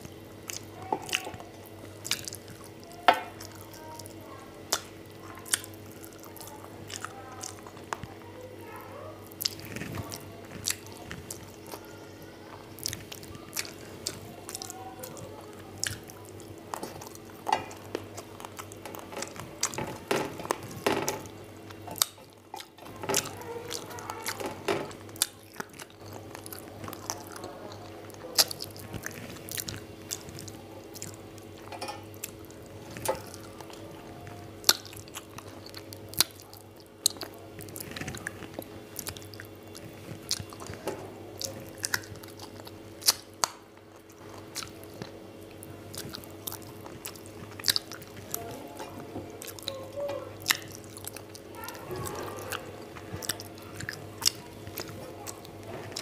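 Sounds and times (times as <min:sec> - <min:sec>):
chewing and wet smacking: 0:00.0 - 0:56.0
faint steady hum: 0:00.0 - 0:56.0
food crunch: 0:00.0 - 0:56.0.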